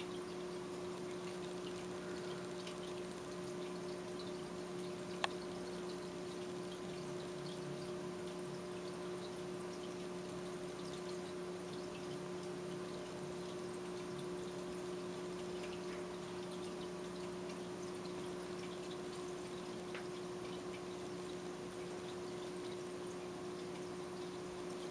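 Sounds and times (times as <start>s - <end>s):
low electrical hum: 0.0s - 24.9s
water drips: 0.0s - 24.9s
water trickling into tank: 0.0s - 24.9s.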